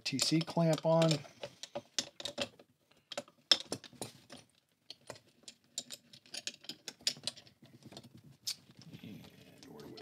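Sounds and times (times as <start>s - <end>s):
small metal clicks and clinks: 0.1s - 8.6s.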